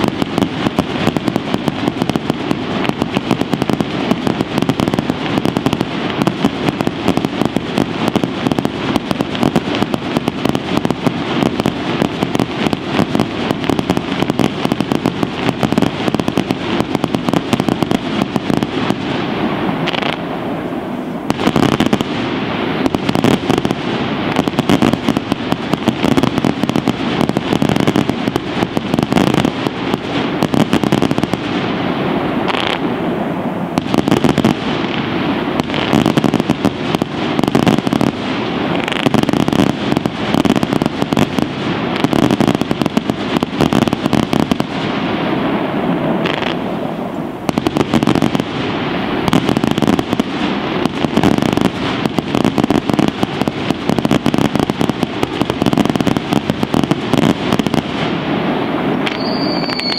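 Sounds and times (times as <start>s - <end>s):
fireworks crackling and popping: 0.0s - 59.9s.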